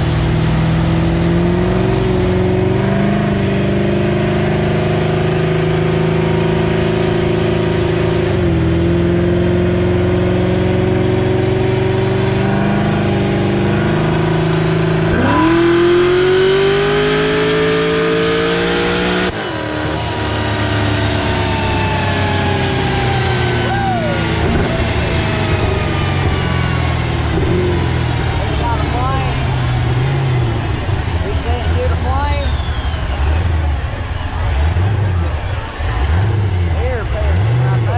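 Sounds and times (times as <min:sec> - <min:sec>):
car engine revving hard: 0:00.0 - 0:37.9.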